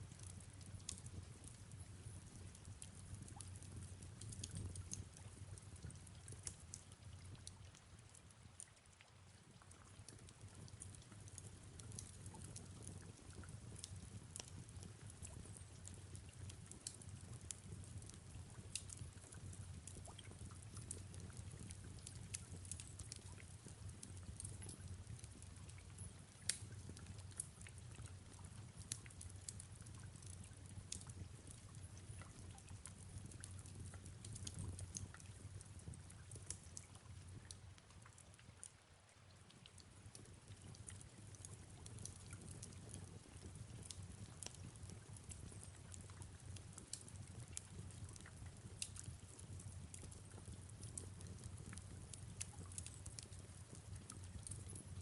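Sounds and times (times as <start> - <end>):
wood fire crackling: 0.0 - 38.7, 39.3 - 55.0.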